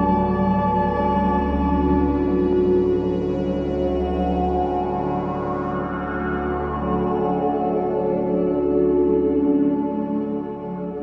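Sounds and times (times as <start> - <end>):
ambient drone music: 0.0 - 11.0.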